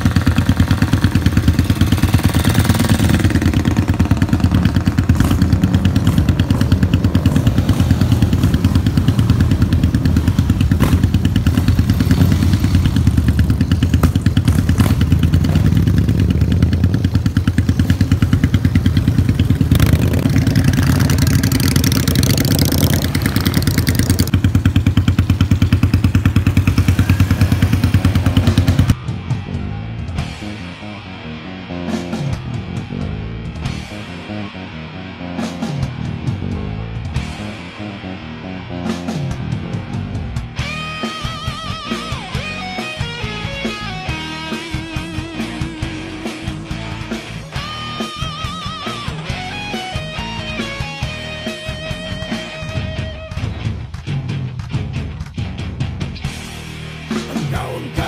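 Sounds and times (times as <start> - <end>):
motorcycle engines rumbling: 0.0 - 58.0.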